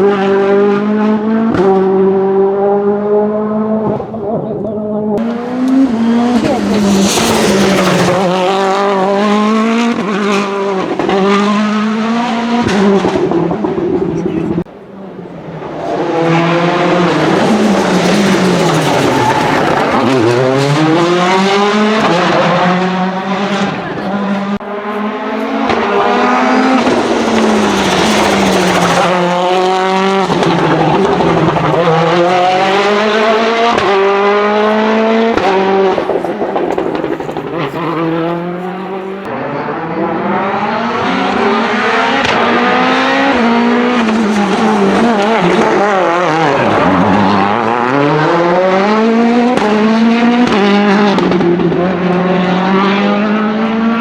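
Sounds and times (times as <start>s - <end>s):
rally car engine revving hard: 0.0s - 4.2s, 4.8s - 14.7s, 15.5s - 54.0s.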